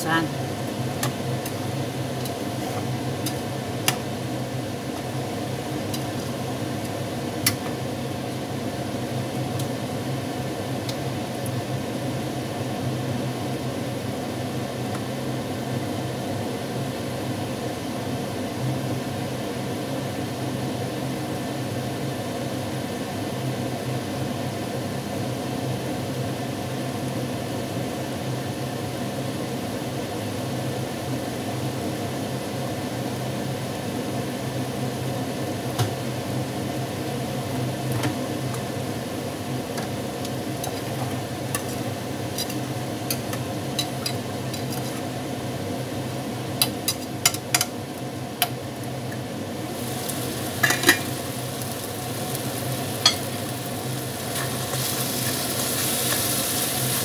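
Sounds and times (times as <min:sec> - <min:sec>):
stove hum and hiss: 0:00.0 - 0:57.0.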